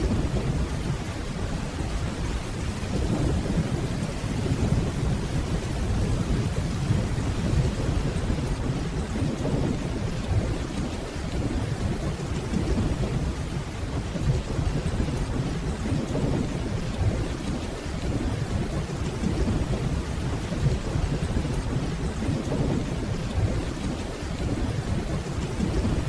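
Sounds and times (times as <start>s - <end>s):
distant thunder rumble: 0.0s - 26.0s
rainfall: 0.0s - 26.0s.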